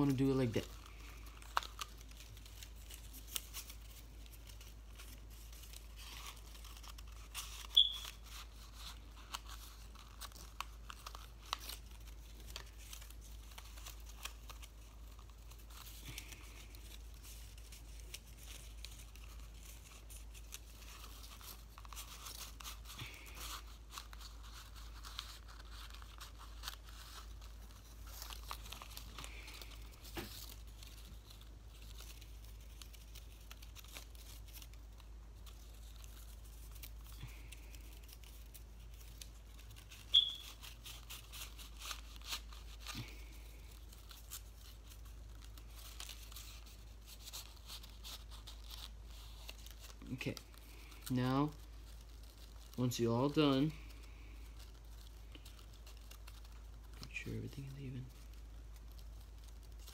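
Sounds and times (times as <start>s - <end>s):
paper rustling and crinkling: 0.0s - 59.9s.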